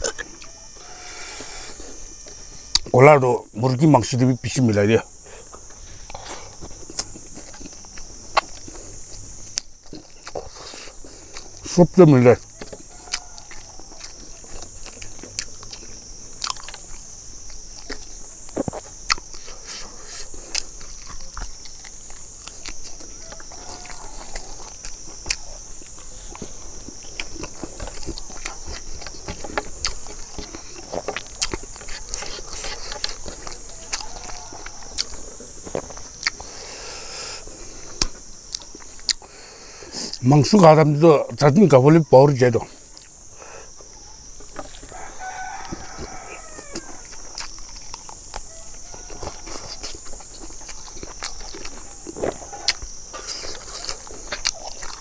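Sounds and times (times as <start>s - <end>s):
steady high-pitched hiss: 0.0s - 55.0s
person chewing rice: 5.2s - 40.2s, 42.8s - 55.0s.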